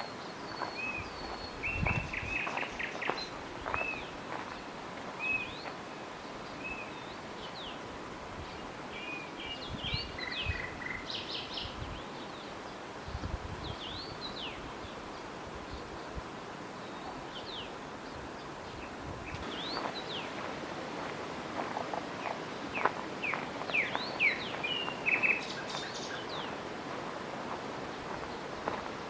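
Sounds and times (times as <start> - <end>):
songbirds calling: 0.0 - 20.6, 22.1 - 26.7, 27.8 - 29.0
outdoor hiss: 0.0 - 29.0.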